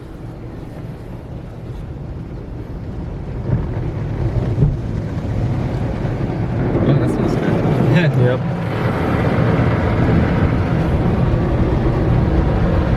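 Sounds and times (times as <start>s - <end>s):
car wash equipment rumbling: 0.0s - 12.9s.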